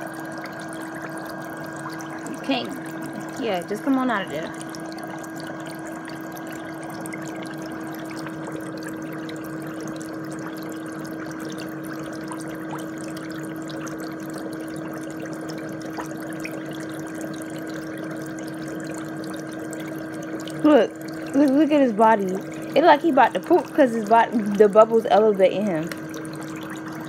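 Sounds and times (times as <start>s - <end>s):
foot spa motor hum: 0.0s - 27.0s
water bubbling: 0.0s - 27.0s.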